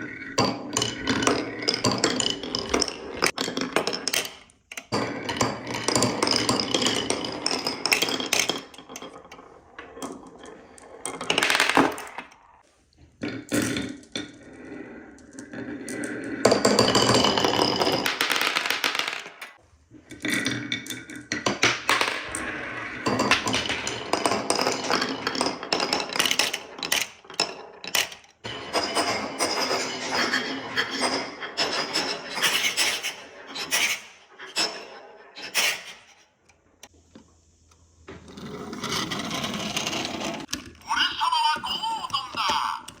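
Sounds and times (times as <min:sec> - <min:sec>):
marbles rolling down wooden run: 0:00.0 - 0:12.6, 0:13.2 - 0:36.0, 0:38.2 - 0:40.6.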